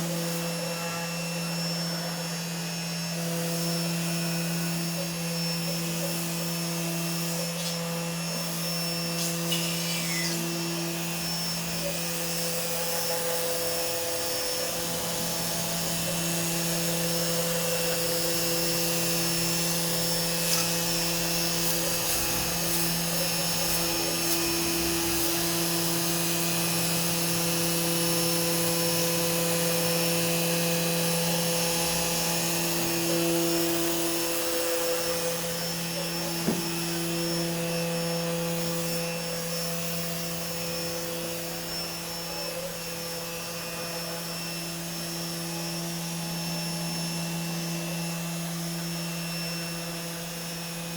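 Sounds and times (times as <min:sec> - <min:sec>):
cnc machine motor hum and whine: 0:00.0 - 0:50.9.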